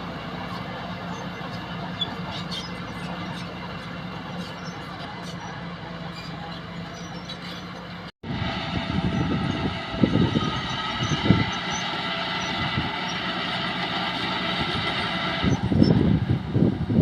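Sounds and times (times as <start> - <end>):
bulldozer engine running: 0.0 - 17.0.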